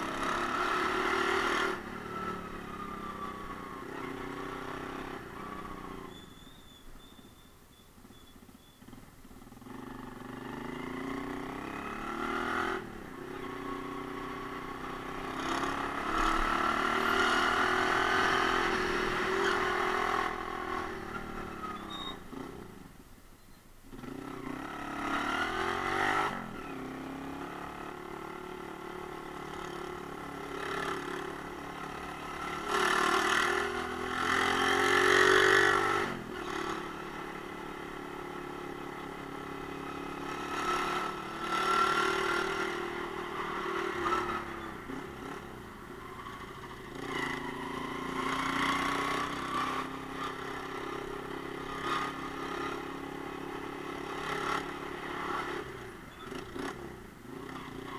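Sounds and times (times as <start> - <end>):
motorcycle engine revving: 0.0 - 7.4, 8.0 - 22.9, 23.9 - 57.9.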